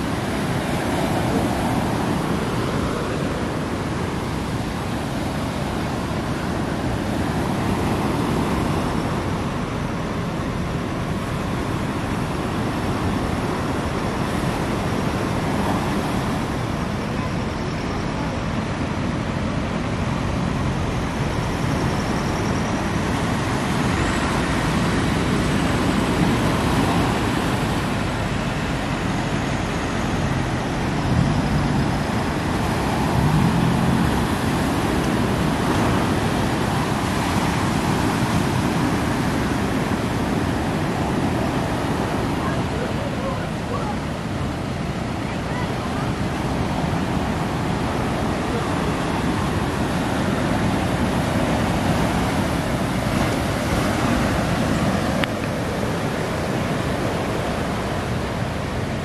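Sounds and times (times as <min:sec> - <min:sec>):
breaking waves: 0:00.0 - 0:59.0.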